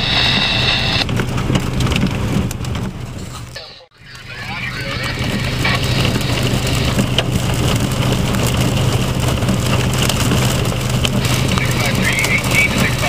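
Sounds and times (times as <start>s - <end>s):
hail and rain hissing: 0.0s - 13.0s
vehicle engine idling: 0.0s - 13.0s.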